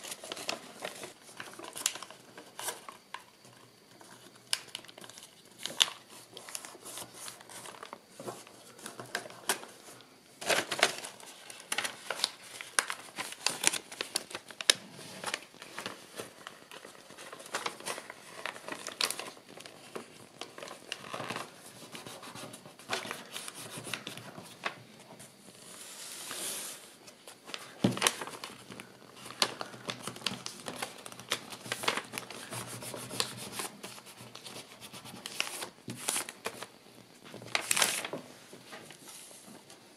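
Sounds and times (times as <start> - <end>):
paper crinkling and rustling: 0.0 - 26.4, 27.0 - 39.8.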